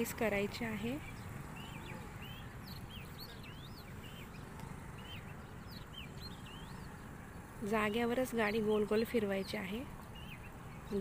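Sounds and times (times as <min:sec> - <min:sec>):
birds chirping: 0:00.0 - 0:11.0
steady background noise: 0:00.0 - 0:11.0.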